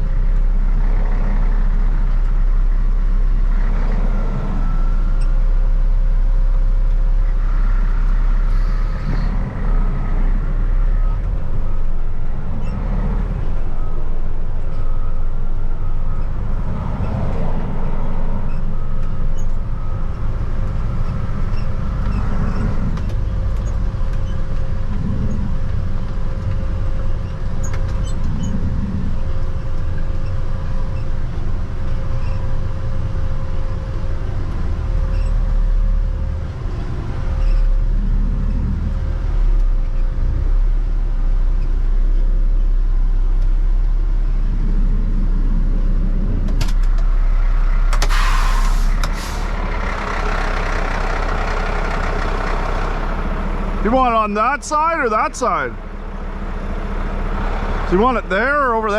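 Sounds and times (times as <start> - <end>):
truck engine running under load: 0.0 - 58.9.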